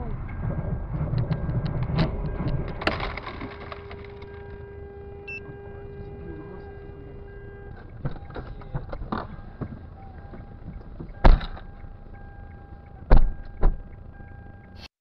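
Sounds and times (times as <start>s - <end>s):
car engine and road rumble: 0.0s - 14.9s.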